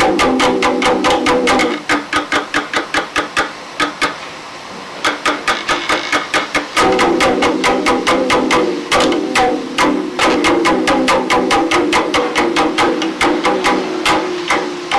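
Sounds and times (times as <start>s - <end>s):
sharp percussive taps: 0.0s - 4.2s, 5.0s - 14.9s.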